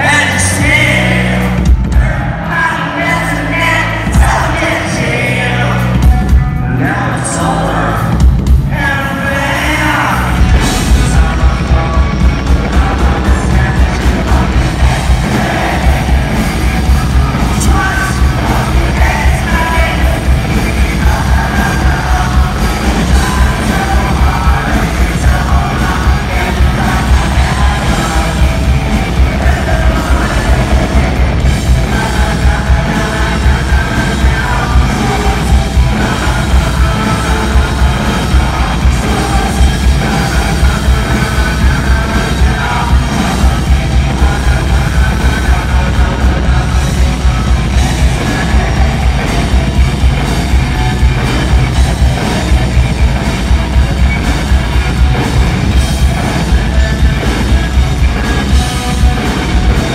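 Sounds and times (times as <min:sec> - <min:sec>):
man singing: 0:00.0 - 0:53.2, 0:53.8 - 0:59.9
live rock band playing: 0:00.0 - 0:59.9.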